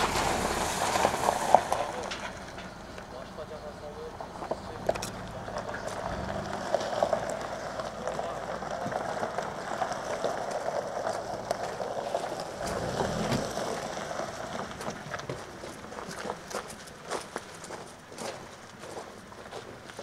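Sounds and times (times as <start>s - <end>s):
car engine running low: 0.0s - 17.1s
tyres crunching on gravel: 0.0s - 20.0s.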